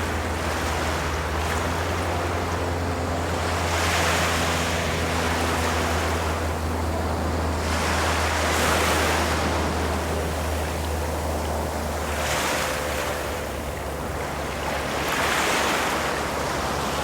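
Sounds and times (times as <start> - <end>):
low surf rumble: 0.0 - 17.0
waves breaking on a beach: 0.0 - 17.0.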